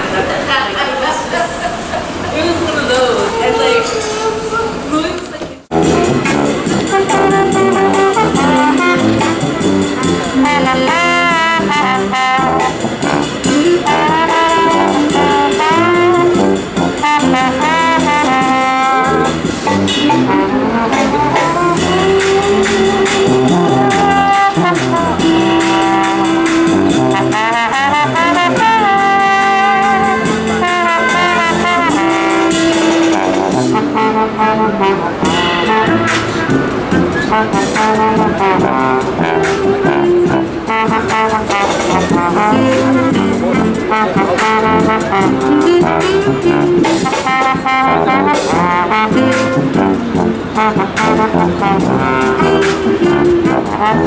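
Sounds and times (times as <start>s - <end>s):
jazz music with brass: 5.6s - 54.0s.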